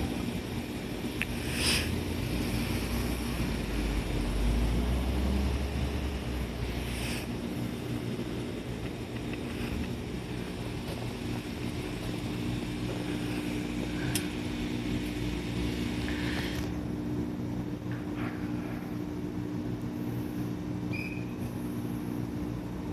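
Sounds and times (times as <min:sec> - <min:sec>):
train equipment humming: 0:00.0 - 0:22.9.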